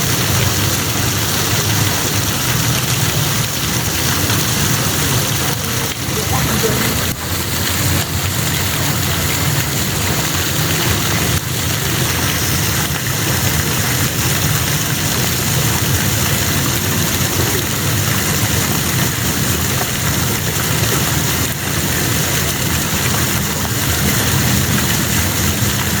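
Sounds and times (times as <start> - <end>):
steady rain hissing: 0.0 - 26.0.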